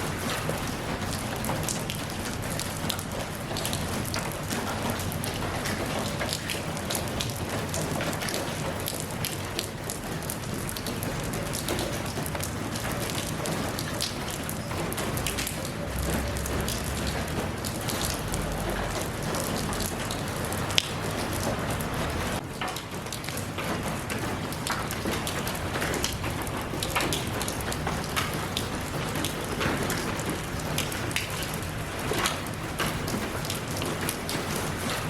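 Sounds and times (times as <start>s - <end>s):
rain falling: 0.0s - 35.0s
raindrops ticking on hard surface: 0.0s - 35.0s.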